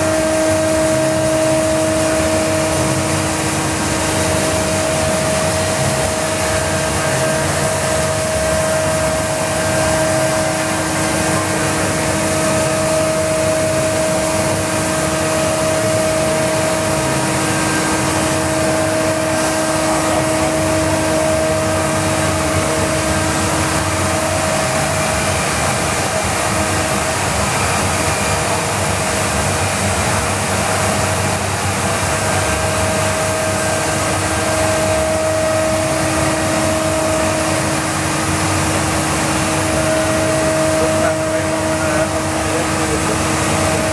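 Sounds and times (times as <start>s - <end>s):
machine whirring hum: 0.0s - 43.9s.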